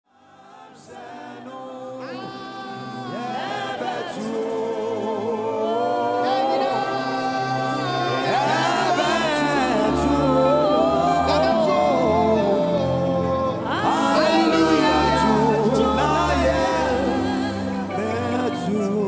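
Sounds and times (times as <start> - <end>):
choir singing in harmony: 0.1 - 19.0.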